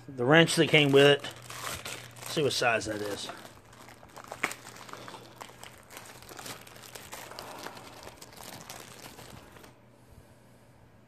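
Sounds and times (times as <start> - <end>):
plastic wrapping crinkling: 0.4 - 9.8.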